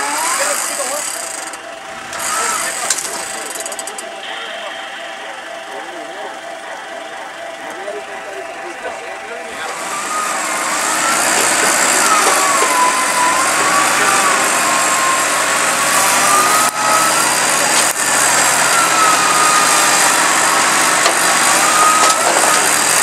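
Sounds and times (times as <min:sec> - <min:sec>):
off-road vehicle engine running: 0:00.0 - 0:23.0
wavering whine: 0:00.0 - 0:23.0.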